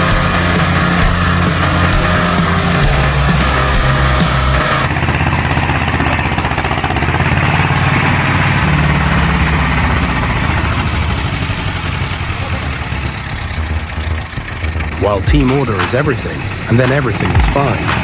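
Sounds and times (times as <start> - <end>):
heavy engine rumbling: 0.0 - 18.0.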